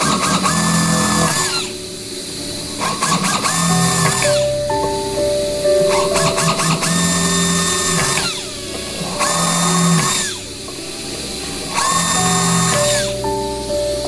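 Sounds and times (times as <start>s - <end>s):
power drill whining: 0.0s - 4.5s, 6.0s - 13.2s.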